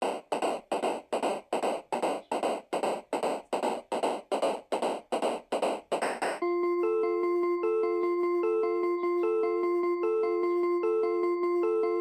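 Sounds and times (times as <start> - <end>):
electronic percussion beat: 0.0 - 12.0.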